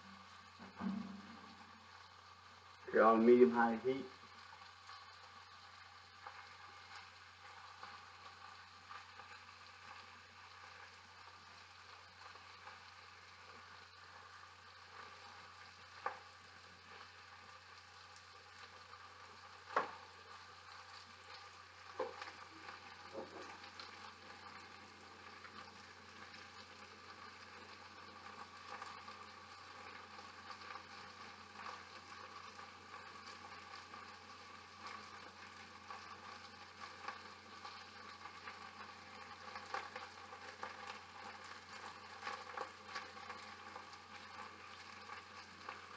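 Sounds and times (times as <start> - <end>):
chicken sizzling in frying pan: 0.0 - 45.9.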